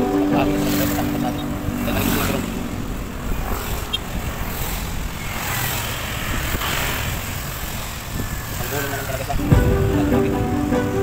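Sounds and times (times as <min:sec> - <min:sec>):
wind: 0:00.0 - 0:11.0
road rumble on wet road: 0:00.1 - 0:10.4.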